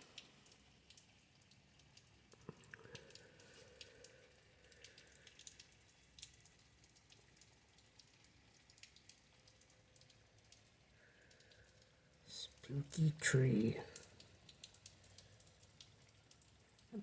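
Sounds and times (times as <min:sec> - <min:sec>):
drips and taps: 0:00.0 - 0:17.0
faint rain falling: 0:00.0 - 0:17.0.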